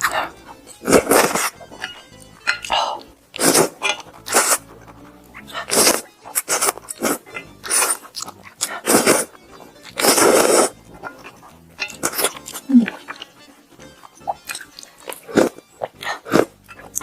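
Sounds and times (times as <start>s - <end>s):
crunchy chewing of fried chicken: 3.3s - 17.0s.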